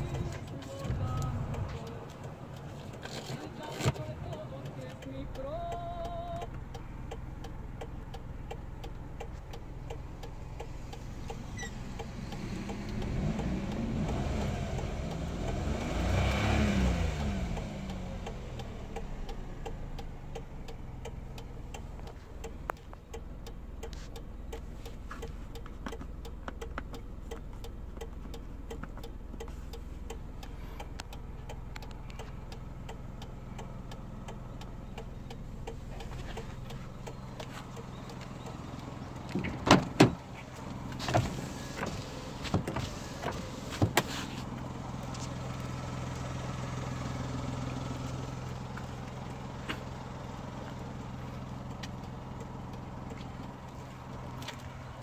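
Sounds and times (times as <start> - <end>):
car engine idling and revving: 0.0 - 55.0
faint ticks: 0.3 - 15.7, 17.2 - 39.4, 44.5 - 54.9.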